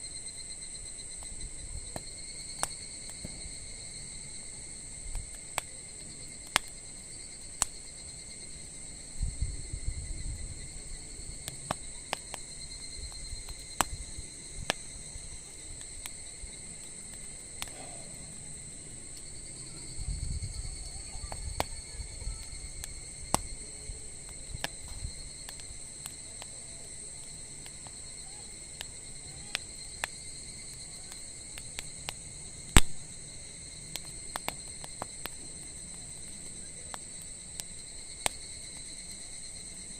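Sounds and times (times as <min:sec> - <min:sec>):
campfire crackling and popping: 0:00.0 - 0:39.9
insects chirping: 0:00.0 - 0:39.9.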